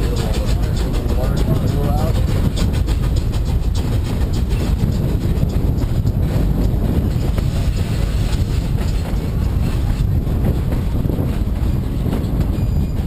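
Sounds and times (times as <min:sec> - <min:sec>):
train rumbling along track: 0:00.0 - 0:13.0
wheels clicking on rails: 0:00.0 - 0:13.0.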